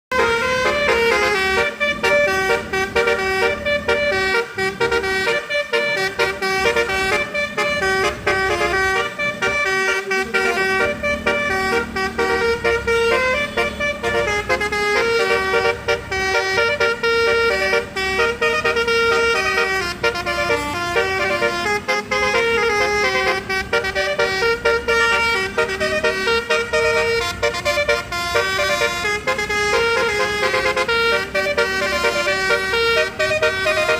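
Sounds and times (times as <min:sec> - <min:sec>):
multi-tone bus horn melody: 0:00.1 - 0:33.9.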